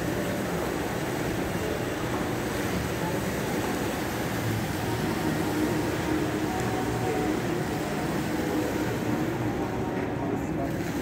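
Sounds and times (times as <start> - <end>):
ventilation hum: 0.0 - 11.0.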